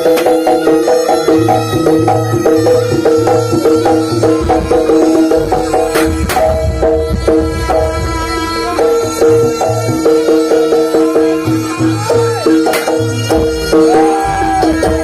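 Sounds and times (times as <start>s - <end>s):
drums: 0.0s - 15.0s
metal percussion ensemble music: 0.0s - 15.0s.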